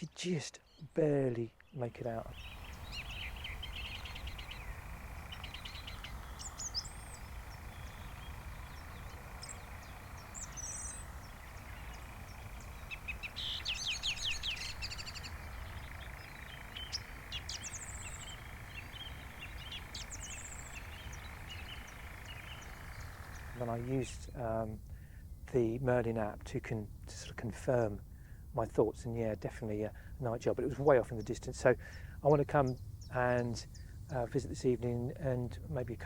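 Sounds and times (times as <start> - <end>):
song thrush singing: 0.0 - 36.0.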